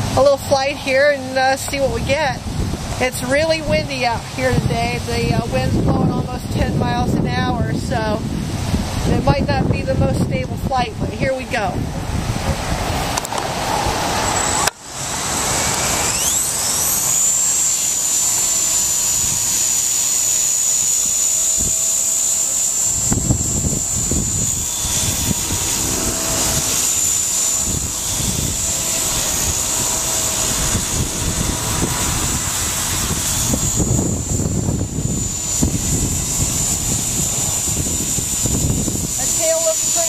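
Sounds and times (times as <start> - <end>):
rc helicopter motor whine: 0.0 - 40.0
wind buffeting microphone: 0.0 - 40.0.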